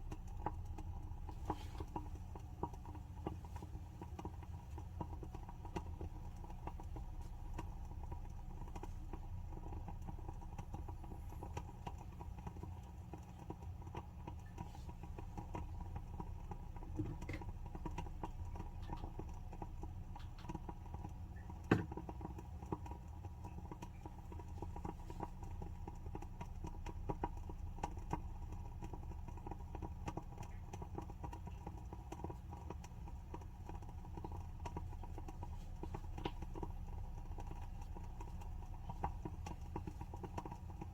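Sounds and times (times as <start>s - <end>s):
wooden candle wick crackling: 0.0s - 40.9s.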